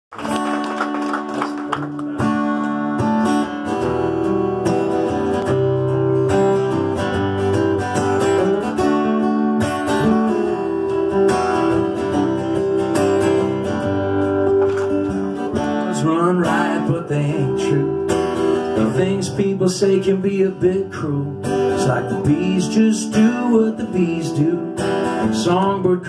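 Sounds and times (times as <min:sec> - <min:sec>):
acoustic guitars strummed: 0:00.2 - 0:26.0.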